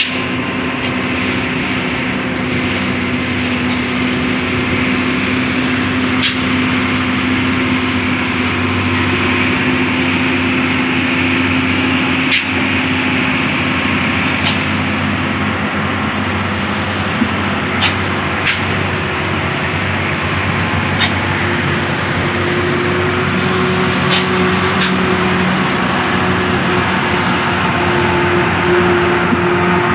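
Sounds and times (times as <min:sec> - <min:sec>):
diesel truck engine running: 0:00.0 - 0:29.9
road noise hum: 0:00.0 - 0:29.9.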